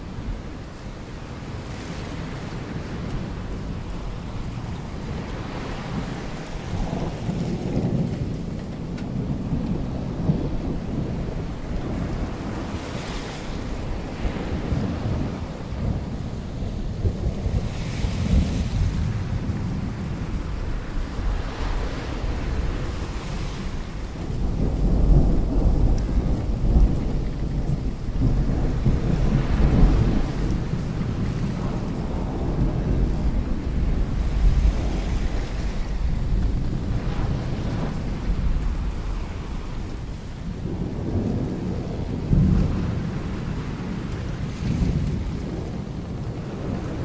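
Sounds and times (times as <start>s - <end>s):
heavy rain: 0.0s - 47.0s
thunder rumbling: 0.0s - 47.0s.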